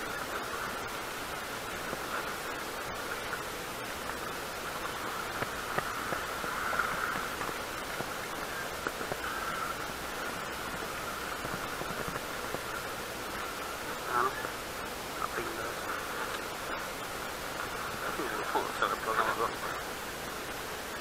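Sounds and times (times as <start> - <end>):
choppy sea water: 0.0 - 21.0
wind: 0.0 - 21.0.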